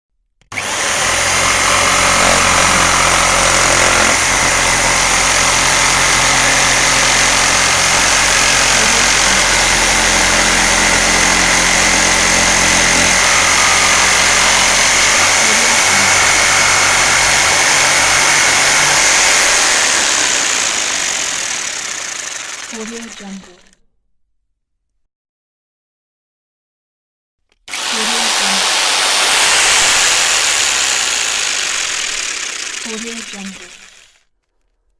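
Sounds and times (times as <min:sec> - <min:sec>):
jigsaw sawing wood: 0:00.4 - 0:23.8, 0:27.5 - 0:34.4.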